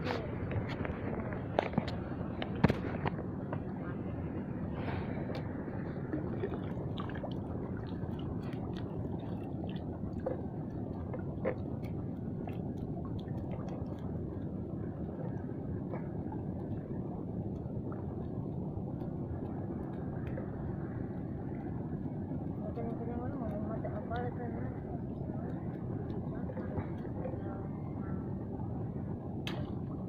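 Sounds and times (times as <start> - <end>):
low rumbling noise: 0.0 - 30.0.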